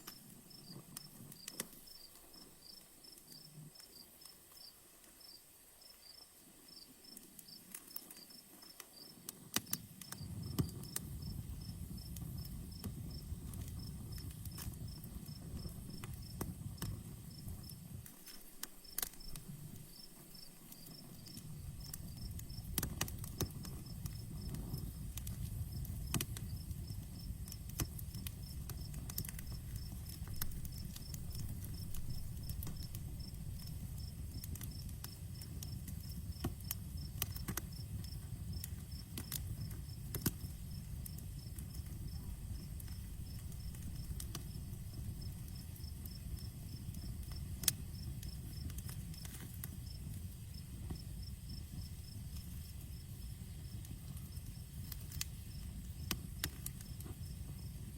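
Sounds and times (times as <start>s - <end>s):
crickets chirping: 0.0s - 22.7s, 23.6s - 56.1s, 56.7s - 57.9s
campfire crackling and popping: 0.0s - 57.9s.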